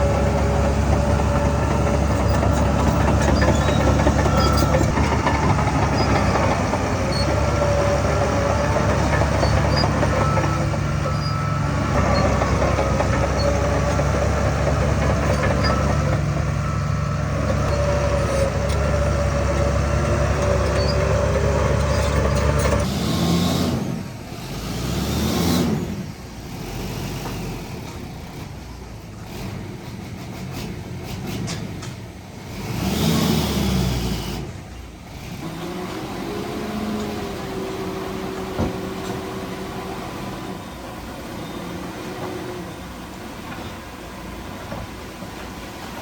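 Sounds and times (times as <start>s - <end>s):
heavy diesel machinery engine: 0.0s - 46.0s.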